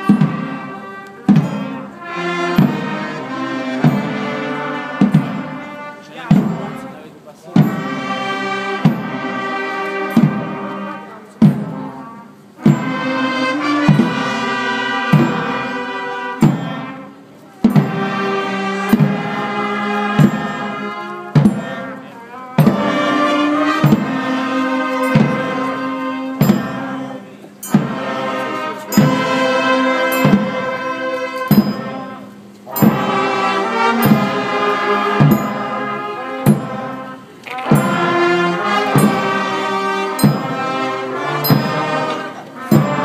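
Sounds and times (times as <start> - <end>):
drum beat: 0.0 - 17.0, 17.6 - 43.0
brass band playing a march: 0.0 - 43.0.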